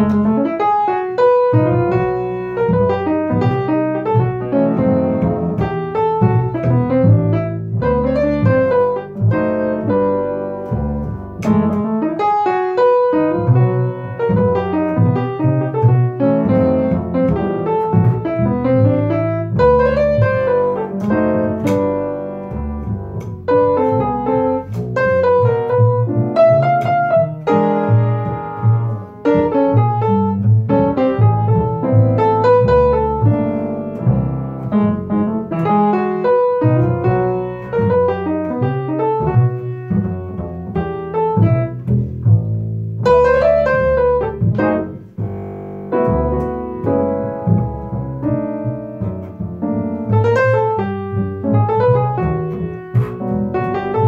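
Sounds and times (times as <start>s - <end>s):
jazz piano: 0.0s - 54.0s
plucked double bass: 0.0s - 54.0s.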